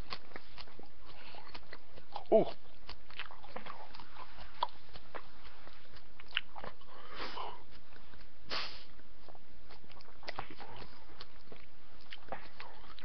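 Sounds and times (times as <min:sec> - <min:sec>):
person chewing with wet crunches: 0:00.0 - 0:13.0.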